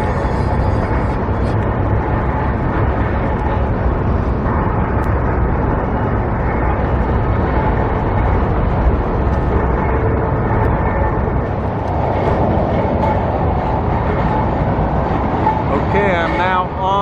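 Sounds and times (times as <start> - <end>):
low rumble of outdoor background noise: 0.0 - 17.0.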